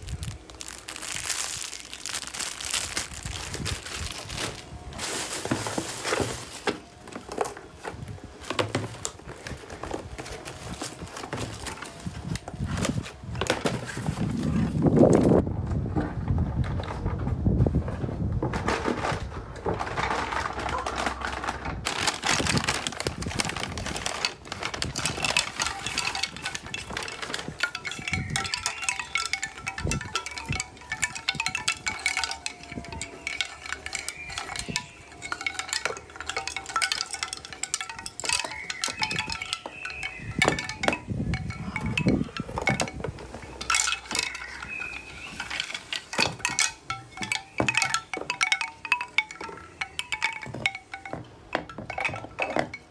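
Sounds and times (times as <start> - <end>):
paper and cardboard rustling: 0.0 - 15.3, 16.1 - 51.2
bamboo wind chimes clacking: 0.0 - 15.6, 18.4 - 52.9.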